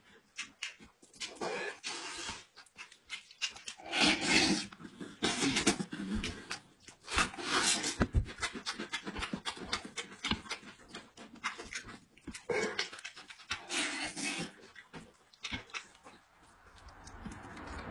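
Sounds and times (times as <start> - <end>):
wet chewing and slurping: 0.0 - 17.9.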